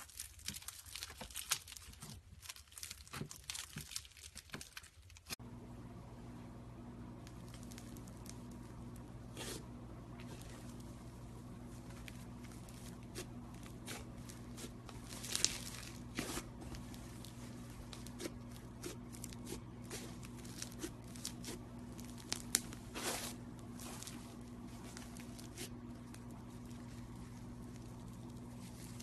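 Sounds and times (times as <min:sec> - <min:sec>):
steady low hum: 0:05.4 - 0:29.0.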